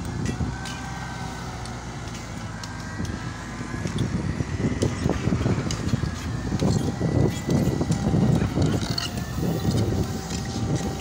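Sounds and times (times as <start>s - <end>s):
backhoe knocking and clatter: 0.0s - 11.0s
diesel engine running: 0.0s - 11.0s.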